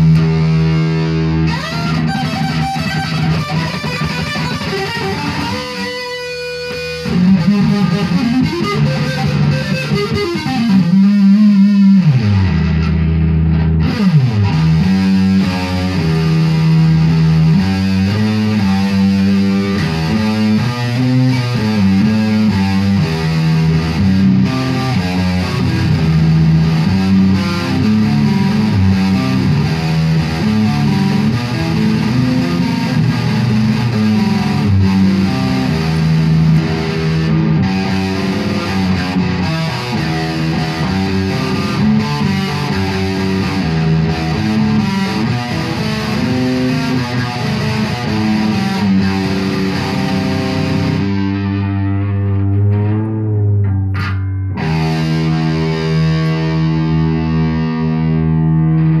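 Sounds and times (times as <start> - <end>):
electric guitar through amplifier: 0.0 - 59.0.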